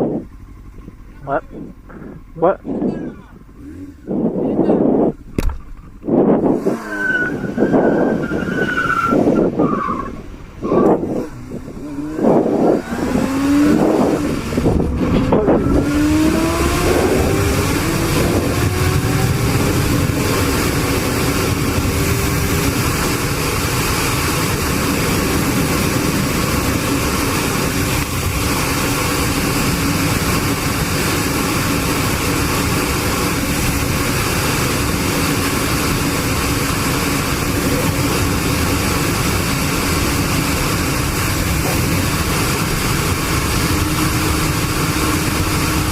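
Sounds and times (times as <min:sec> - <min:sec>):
road and wind noise: 0:00.0 - 0:45.9
vehicle engine accelerating: 0:00.0 - 0:45.9.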